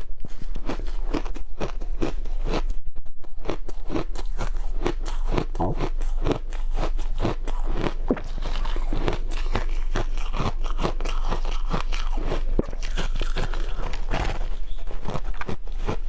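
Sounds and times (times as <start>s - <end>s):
ice being chewed with crunches: 0.0s - 16.0s.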